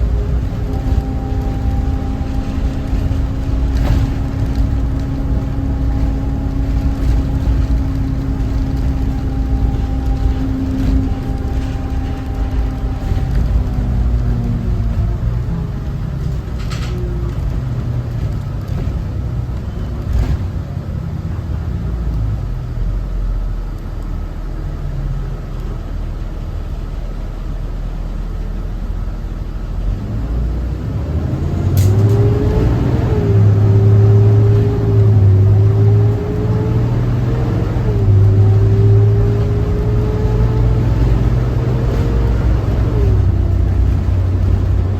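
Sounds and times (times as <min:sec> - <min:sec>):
bus diesel engine rumbling: 0:00.0 - 0:44.9.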